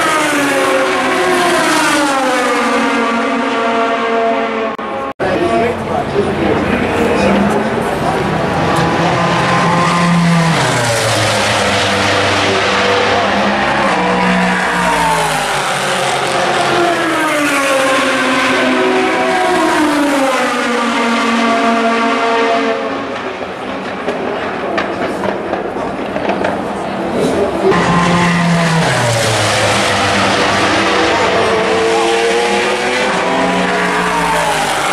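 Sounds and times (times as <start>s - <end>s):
race car engines revving: 0.0s - 34.9s.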